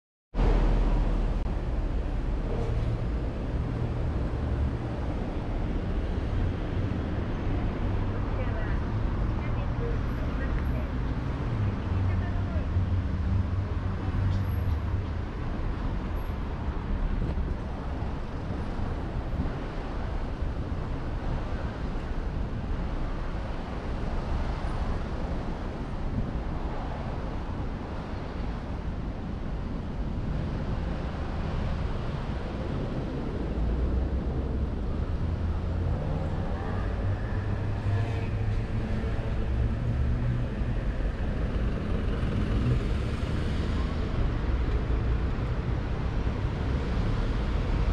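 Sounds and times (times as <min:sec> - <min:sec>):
street traffic rumble: 0:00.3 - 0:47.9.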